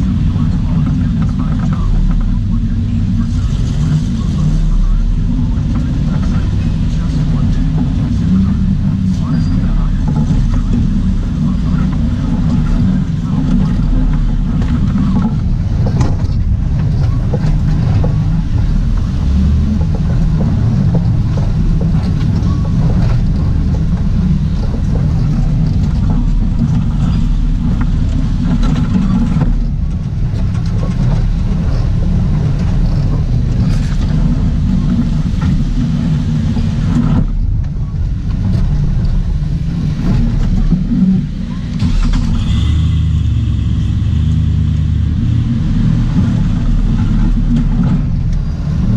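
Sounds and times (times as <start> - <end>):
vehicle engine running: 0.0 - 48.9
vehicle rattling over rocks: 0.0 - 48.9.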